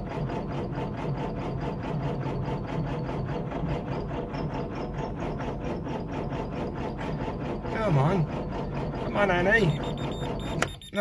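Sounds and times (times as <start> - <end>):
engine starter cranking: 0.0 - 11.0.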